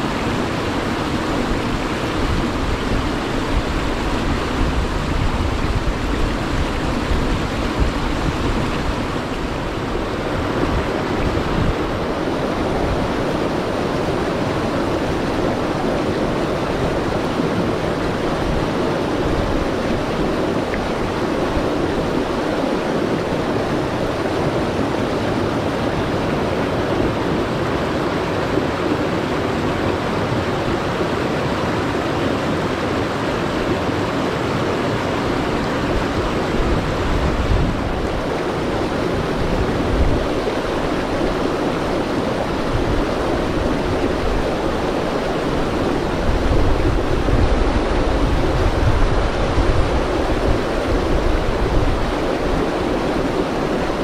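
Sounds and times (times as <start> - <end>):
wind buffeting microphone: 0.0 - 27.3, 35.3 - 54.0
river rushing over boulders: 0.0 - 54.0.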